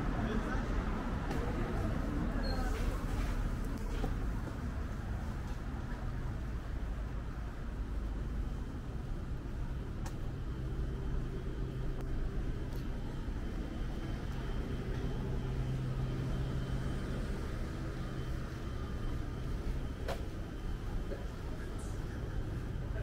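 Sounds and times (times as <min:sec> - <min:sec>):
engine hum: 0:00.0 - 0:23.0
road traffic rumble: 0:00.0 - 0:23.0.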